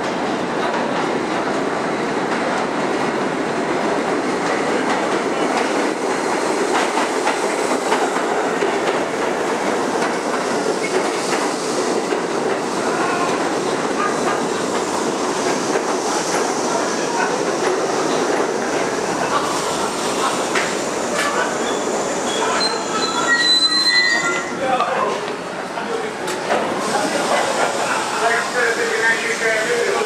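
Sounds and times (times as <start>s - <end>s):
subway train rolling past: 0.0s - 30.0s.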